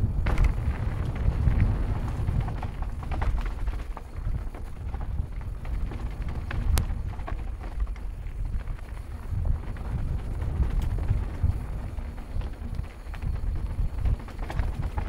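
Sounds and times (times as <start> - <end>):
bike rattles and clicks: 0.0 - 15.0
bike tyre noise: 0.0 - 15.0
wind rumbling on microphone: 0.0 - 15.0.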